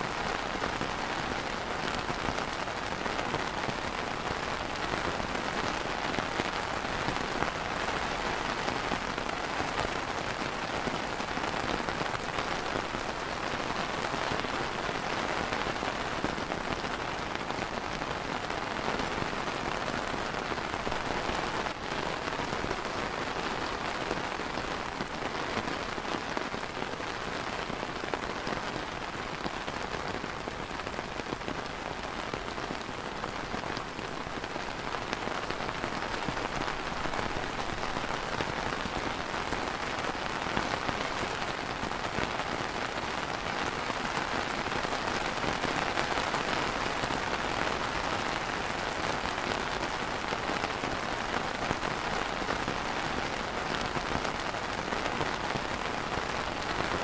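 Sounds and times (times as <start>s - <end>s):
rain on a plastic umbrella: 0.0s - 57.0s.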